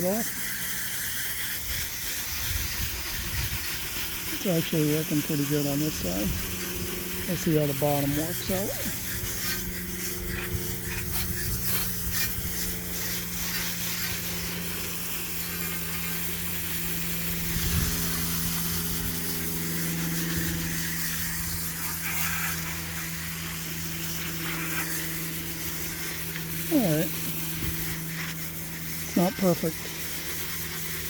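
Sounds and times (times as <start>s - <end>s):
hose spraying water: 0.0s - 31.0s
steady low hum: 0.0s - 31.0s.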